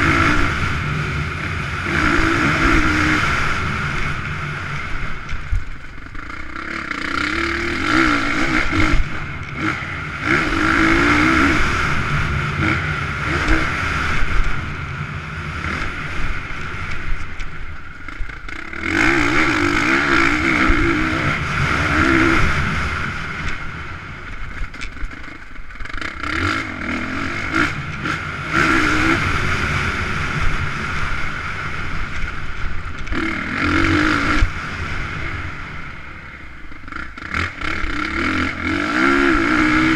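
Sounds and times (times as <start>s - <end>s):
motocross engines revving: 0.0s - 39.9s.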